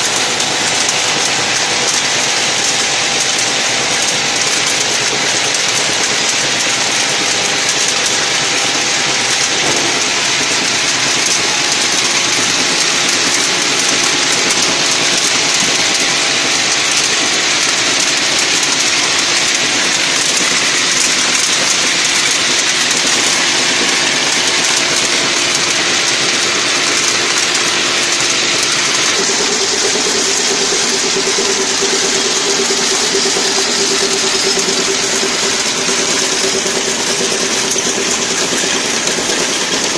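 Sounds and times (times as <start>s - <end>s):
packing machine whirring: 0.0s - 39.9s.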